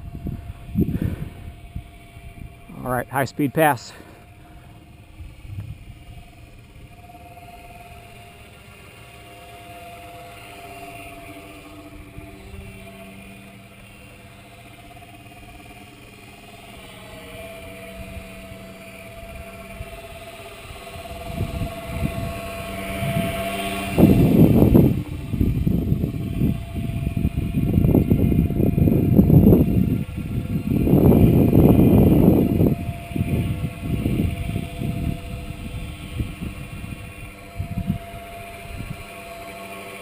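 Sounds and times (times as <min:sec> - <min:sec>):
electric motor and propeller humming: 0:00.0 - 0:40.0.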